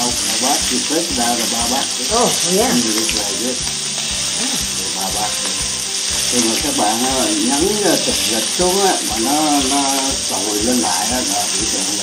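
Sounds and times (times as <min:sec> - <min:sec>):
background music: 0:00.0 - 0:12.0
meat sizzling in a frying pan: 0:00.0 - 0:12.0.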